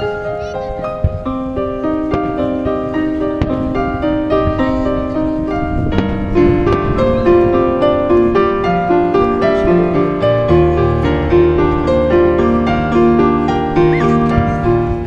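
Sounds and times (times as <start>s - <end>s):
piano-like keyboard melody: 0.0s - 15.0s.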